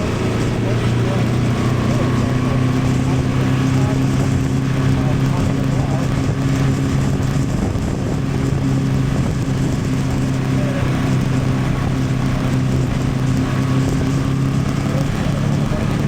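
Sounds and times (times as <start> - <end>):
motorcycle engine cruising: 0.0 - 16.0
road noise: 0.0 - 16.0
wind noise: 0.0 - 16.0.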